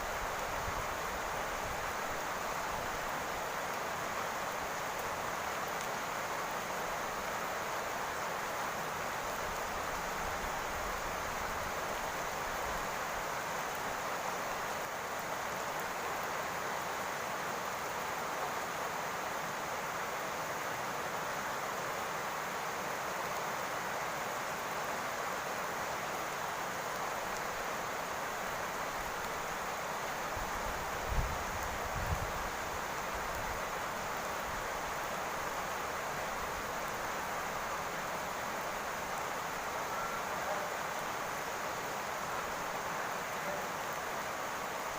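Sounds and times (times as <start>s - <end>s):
rain falling on a roof: 0.0s - 44.9s.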